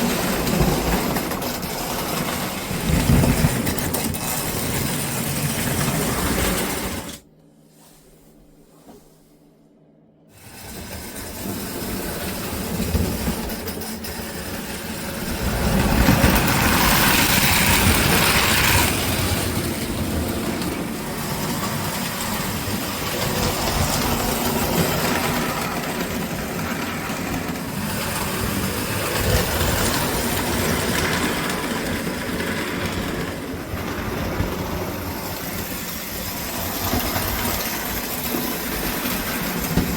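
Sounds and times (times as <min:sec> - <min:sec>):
toy train running on track: 0:00.0 - 0:07.2, 0:10.4 - 0:39.9.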